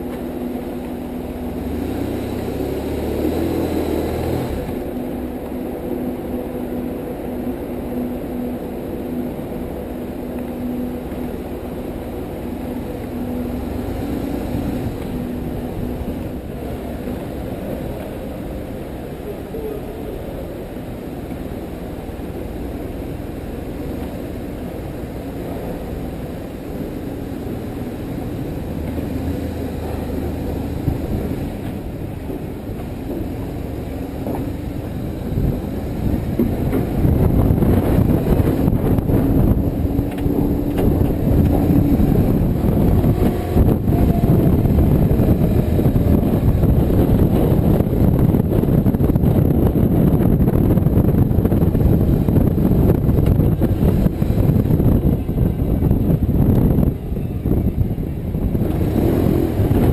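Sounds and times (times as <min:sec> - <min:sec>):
motorcycle engine: 0:00.0 - 0:59.9
wind noise: 0:00.0 - 0:59.9.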